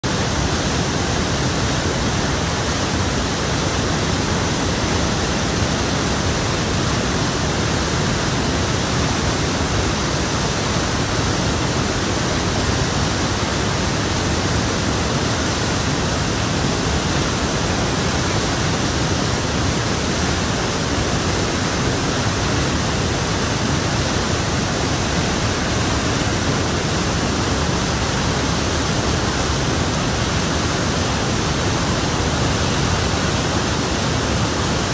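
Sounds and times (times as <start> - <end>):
waterfall and river rushing: 0.0 - 34.9.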